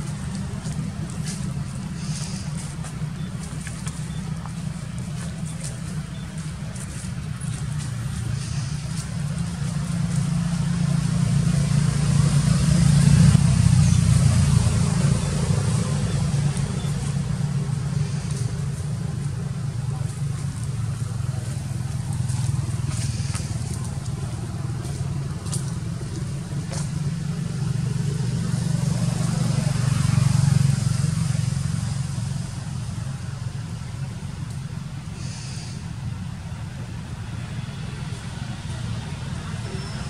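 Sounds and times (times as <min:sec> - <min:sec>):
vehicle engine rumble: 0:00.0 - 0:40.0.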